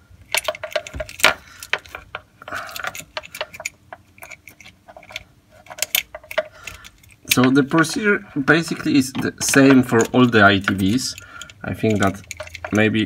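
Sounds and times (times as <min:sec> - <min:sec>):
metal chain clinking and rattling: 0:00.3 - 0:13.0
wrench scraping: 0:00.3 - 0:13.0.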